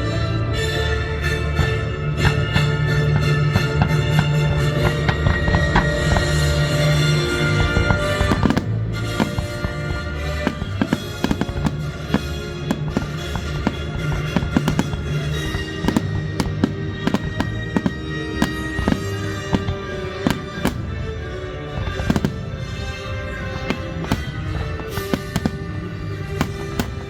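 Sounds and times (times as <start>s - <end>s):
fireworks bangs and crackles: 0.0s - 27.0s
loud music: 0.0s - 27.0s.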